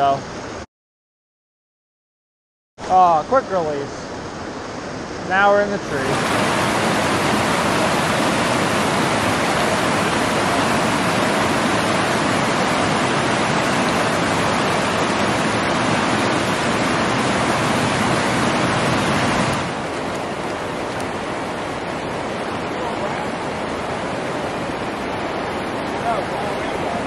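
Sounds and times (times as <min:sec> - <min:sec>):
stream rushing over boulders: 0:02.8 - 0:27.0.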